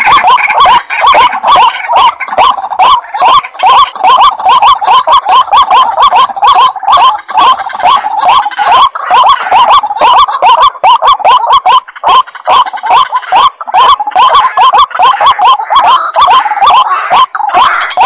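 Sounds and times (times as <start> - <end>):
waterhens calling: 0.0 - 18.0.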